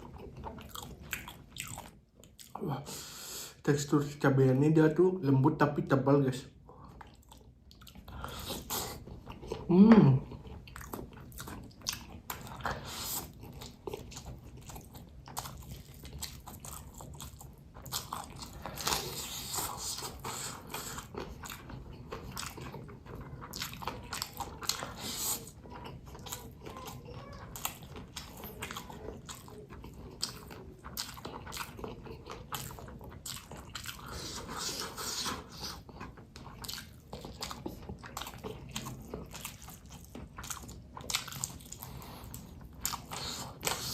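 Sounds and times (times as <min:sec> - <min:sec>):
crunches and wet chews: 0:00.0 - 0:02.7, 0:06.6 - 0:43.9
person chewing food: 0:00.0 - 0:03.6, 0:06.5 - 0:43.9.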